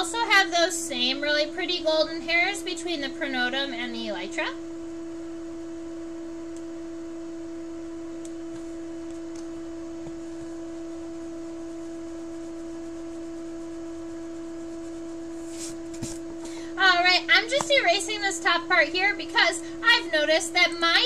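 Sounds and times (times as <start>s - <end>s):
steady electrical whine: 0.0s - 21.0s.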